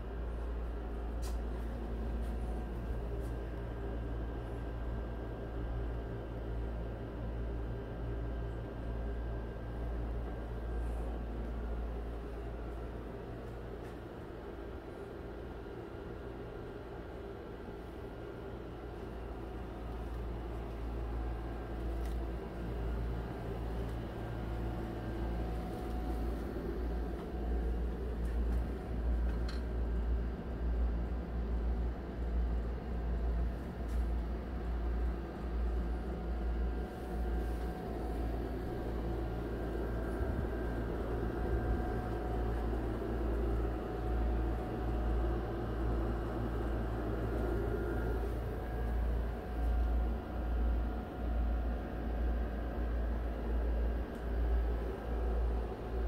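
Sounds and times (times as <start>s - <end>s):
air conditioning fan humming: 0.0s - 56.0s.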